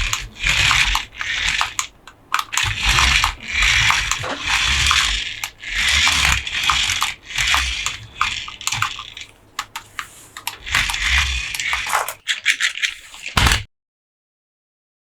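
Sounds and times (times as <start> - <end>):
sharp clicks and taps: 0.0 - 13.7.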